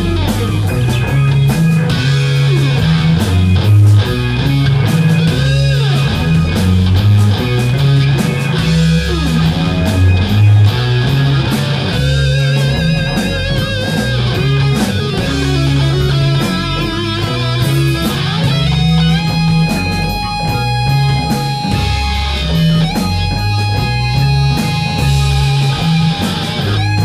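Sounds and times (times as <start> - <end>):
electric guitars: 0.0 - 27.0
heavy low bass line: 0.0 - 27.0
lead guitar bending notes: 0.0 - 27.0
steady drums: 0.0 - 27.0.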